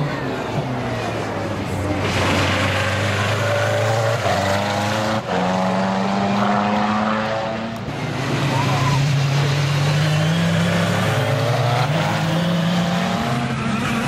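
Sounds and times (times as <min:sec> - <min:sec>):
racing car engines passing: 0:00.0 - 0:14.0.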